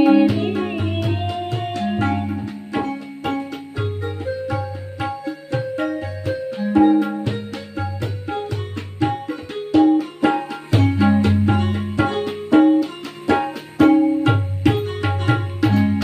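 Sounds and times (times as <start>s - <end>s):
plucked string melody: 0.0s - 16.0s
tabla rhythm: 0.0s - 16.0s.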